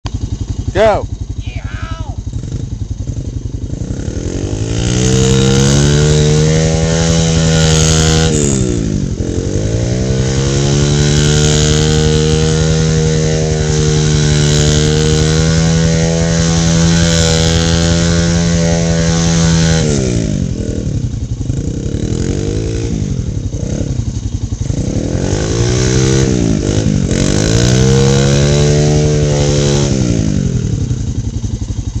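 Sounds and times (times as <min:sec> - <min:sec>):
dirt bike engine revving: 0:00.1 - 0:32.0.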